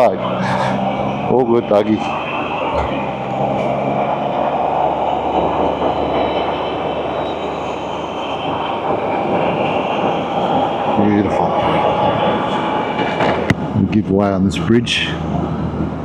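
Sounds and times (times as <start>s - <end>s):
motorcycle engine drone: 0.0s - 16.0s
road noise: 0.0s - 16.0s
wind rush: 0.0s - 16.0s.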